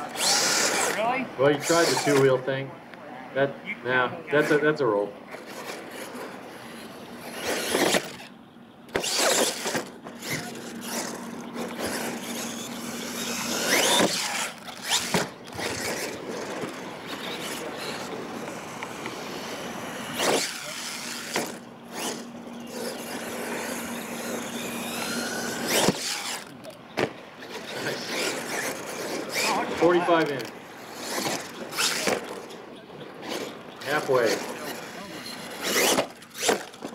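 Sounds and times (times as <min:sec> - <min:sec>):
toy truck motor whine: 0:00.0 - 0:02.4, 0:05.3 - 0:26.8, 0:27.4 - 0:36.9.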